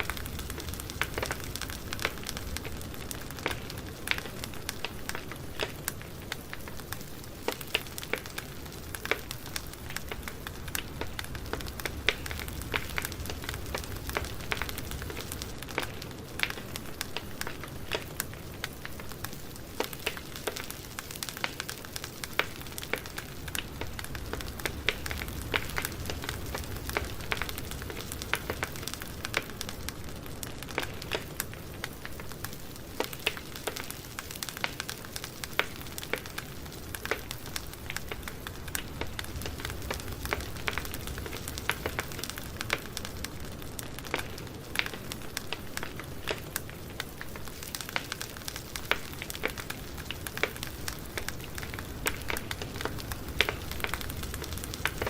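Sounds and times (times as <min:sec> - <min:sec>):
burning wood crackling and popping: 0:00.0 - 0:55.0
low rumble of flames: 0:00.0 - 0:55.0.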